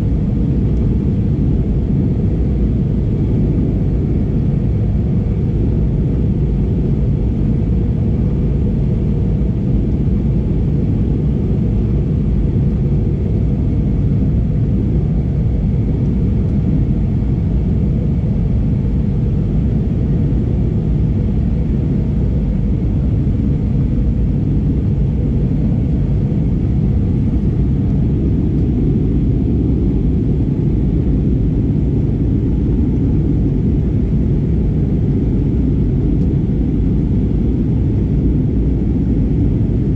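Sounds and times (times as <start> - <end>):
airplane cabin low rumble: 0.0 - 39.9.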